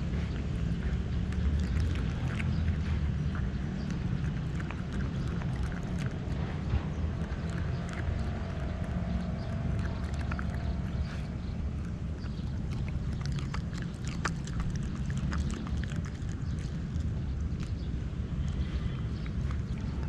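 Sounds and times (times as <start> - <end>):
dog chewing and smacking: 0.0 - 20.0
low rumble: 0.0 - 20.0.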